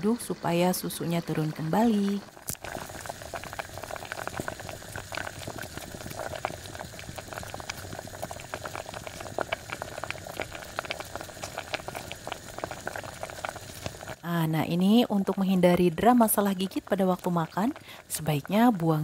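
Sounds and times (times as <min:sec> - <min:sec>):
milk boiling in a pan: 0:00.0 - 0:19.0.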